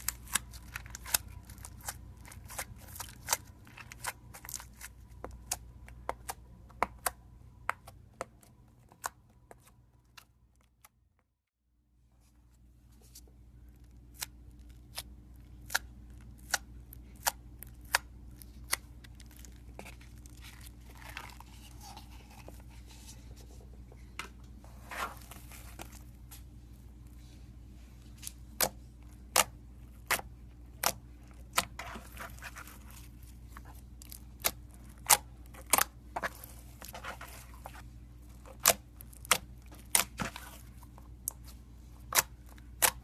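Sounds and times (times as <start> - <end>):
slime squishing: 0.0 - 10.9, 13.1 - 23.9, 24.6 - 43.0.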